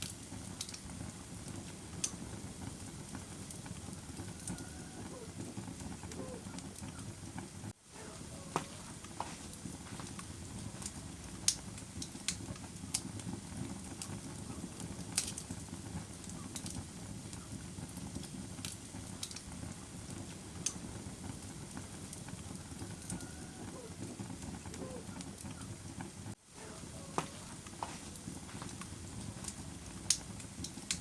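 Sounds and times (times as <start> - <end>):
burning wood crackling and popping: 0.0 - 31.0
fire flames roaring: 0.0 - 31.0.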